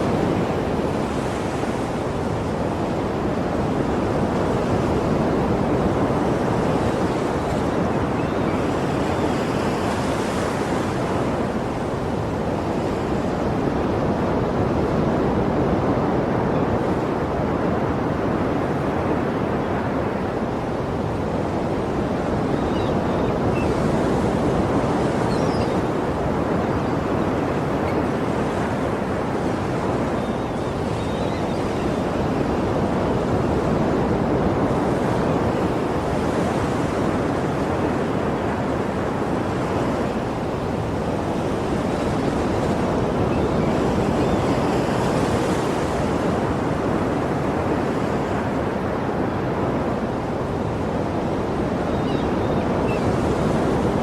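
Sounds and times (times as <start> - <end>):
waves breaking and washing in: 0.0 - 54.0.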